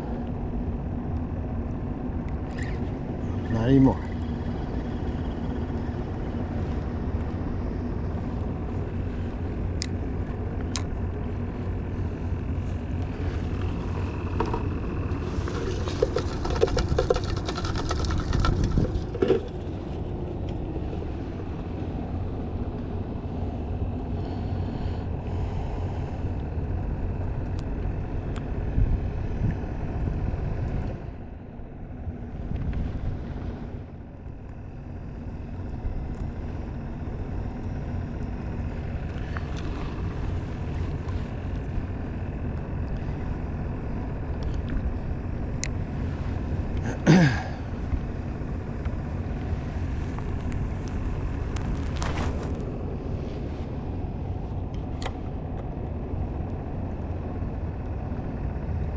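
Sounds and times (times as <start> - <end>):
motorboat engine rumble: 0.0 - 58.9.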